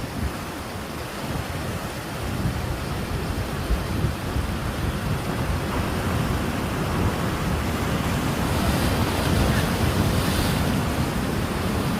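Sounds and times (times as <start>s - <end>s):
sea waves breaking on shore: 0.0s - 11.9s.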